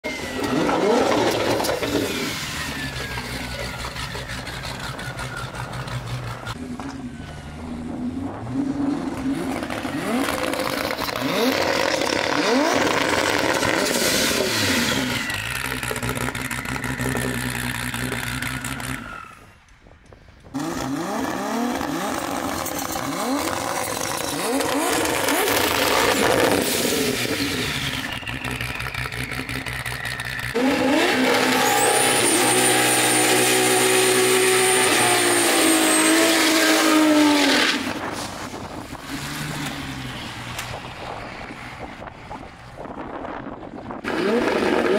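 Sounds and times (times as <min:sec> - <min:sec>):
engine revving: 0:00.0 - 0:19.4, 0:20.5 - 0:40.8, 0:43.9 - 0:44.9.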